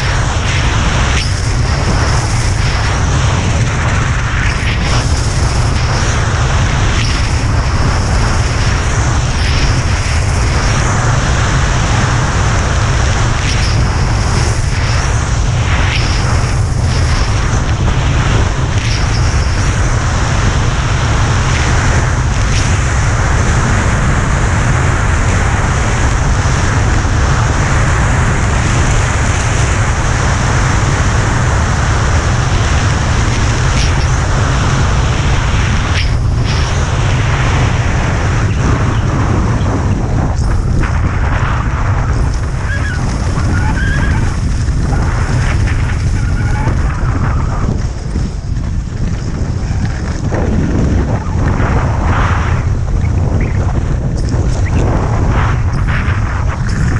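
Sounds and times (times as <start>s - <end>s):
skis scraping over snow: 0.0s - 56.9s
wind buffeting microphone: 0.0s - 56.9s.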